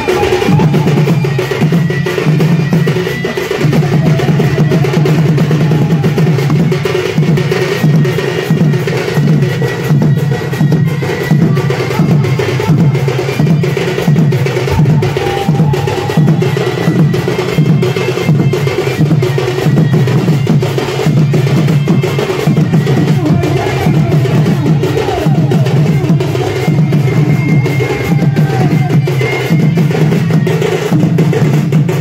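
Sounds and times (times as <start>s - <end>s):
drums beaten with sticks: 0.0s - 32.0s
heavy drum beat: 0.0s - 32.0s.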